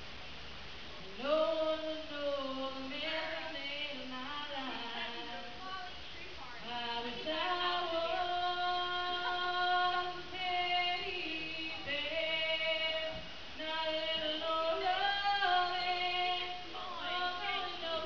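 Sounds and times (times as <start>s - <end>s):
woman singing unaccompanied: 1.1s - 18.0s.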